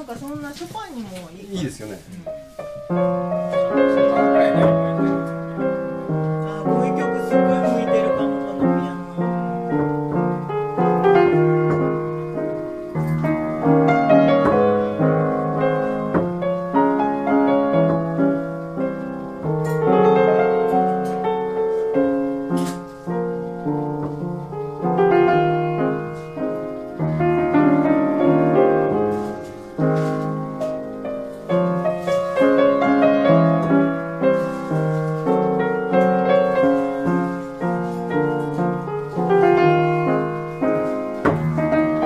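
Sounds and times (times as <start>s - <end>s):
upright piano playing: 0.0s - 42.0s.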